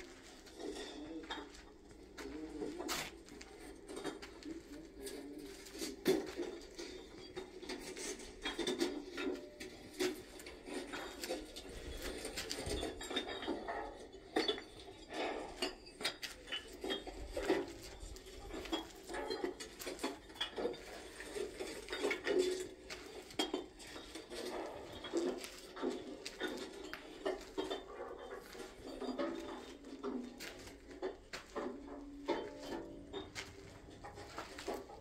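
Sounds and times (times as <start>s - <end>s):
irregular clicks and knocks: 5.6s - 35.0s.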